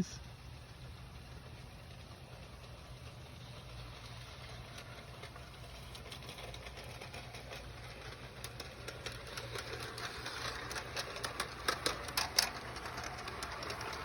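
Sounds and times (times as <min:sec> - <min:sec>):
model train humming: 0:00.0 - 0:14.0
train wheels clicking: 0:00.0 - 0:14.0.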